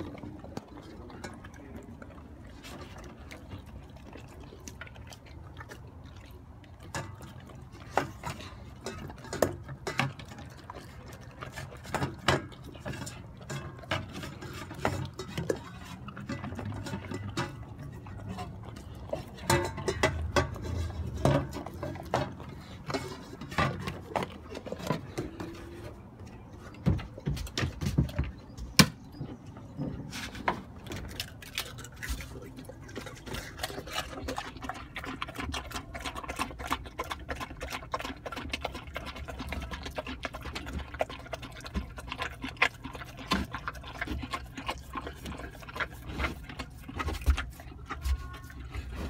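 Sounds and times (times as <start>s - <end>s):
dog chewing and licking: 0.0s - 49.0s.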